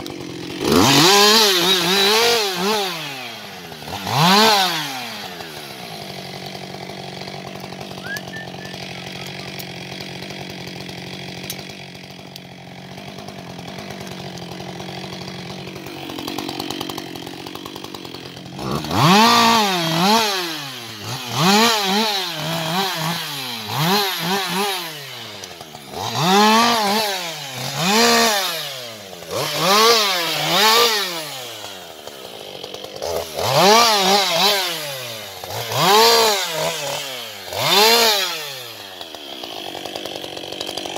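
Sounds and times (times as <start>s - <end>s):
chainsaw idling: 0.0s - 40.9s
chainsaw revving: 0.0s - 40.9s.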